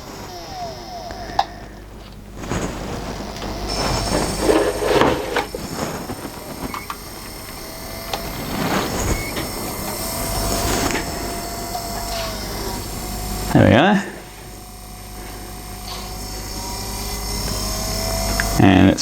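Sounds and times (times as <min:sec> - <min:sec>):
disc drive whirring and rattling: 0:00.0 - 0:19.0
drive clicks: 0:00.0 - 0:19.0
faint gliding whine: 0:00.0 - 0:19.0.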